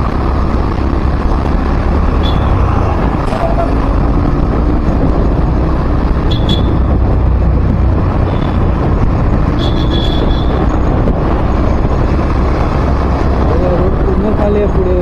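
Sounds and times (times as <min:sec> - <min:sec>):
vehicle road and wind noise: 0:00.0 - 0:15.0.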